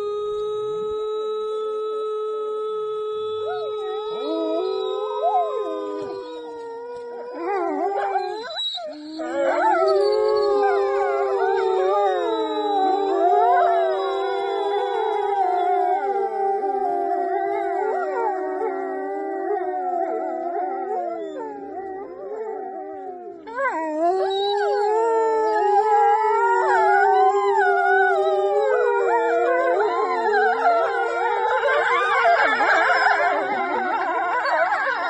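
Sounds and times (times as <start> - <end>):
dogs howling together: 0.0 - 0.4, 2.9 - 35.0.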